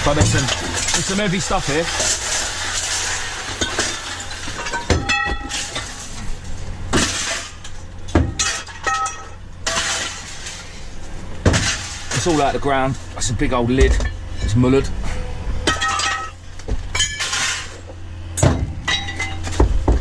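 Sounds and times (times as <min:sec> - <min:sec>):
scrap metal clanking on a heap: 0:00.0 - 0:20.0
steady low hum: 0:00.0 - 0:20.0.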